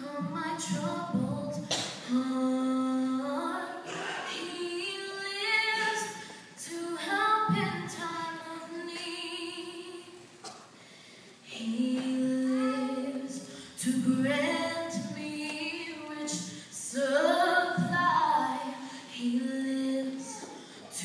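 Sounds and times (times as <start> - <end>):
woman singing a hymn: 0.0 - 10.4, 11.4 - 21.0.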